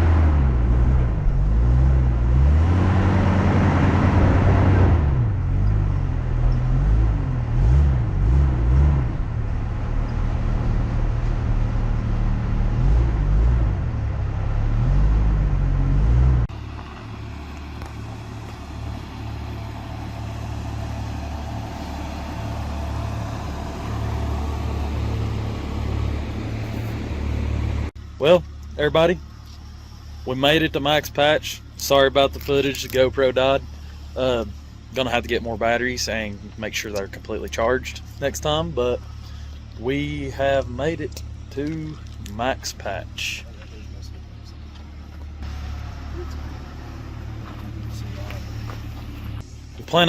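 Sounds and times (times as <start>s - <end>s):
vehicle engine revving: 0.0s - 28.0s, 28.7s - 50.0s.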